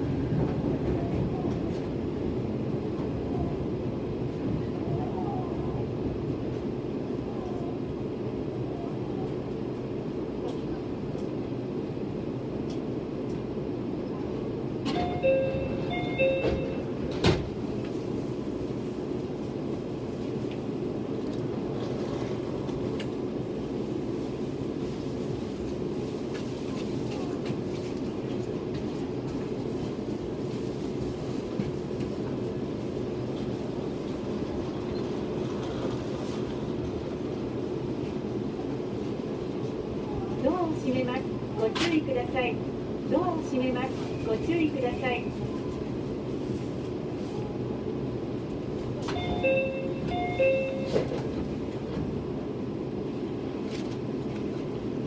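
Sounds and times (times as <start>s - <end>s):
train electrical hum: 0.0s - 55.0s.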